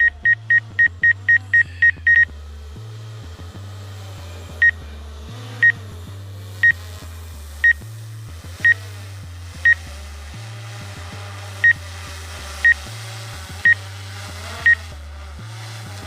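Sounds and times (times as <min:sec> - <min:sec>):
background music with deep bassline: 0:00.0 - 0:16.0.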